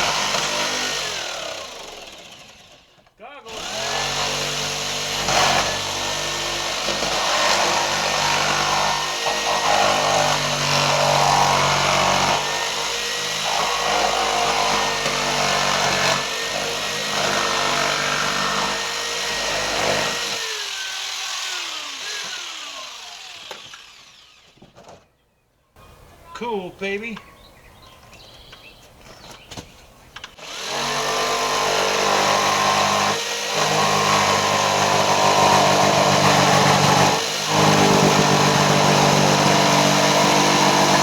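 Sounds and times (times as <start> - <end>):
electric power saw cutting: 0.0 - 2.9, 3.5 - 25.0, 30.3 - 41.0.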